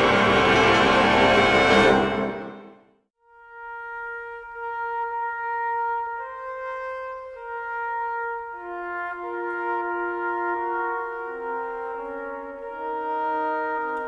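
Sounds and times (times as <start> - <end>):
orchestral music with held notes: 0.0 - 14.0.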